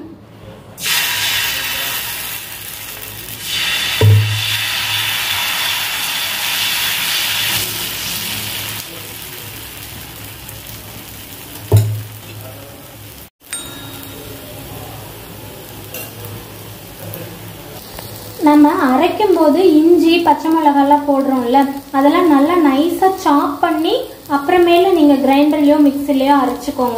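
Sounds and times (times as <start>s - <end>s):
batter sizzling on hot griddle: 0.8s - 13.3s, 14.0s - 26.9s.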